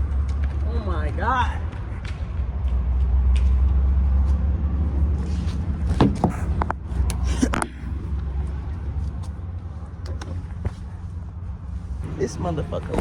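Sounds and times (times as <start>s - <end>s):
car rumble: 0.0s - 13.0s.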